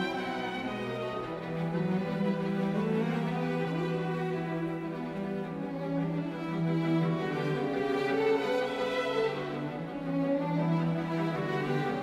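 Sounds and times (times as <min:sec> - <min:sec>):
bowed string music: 0:00.0 - 0:12.0.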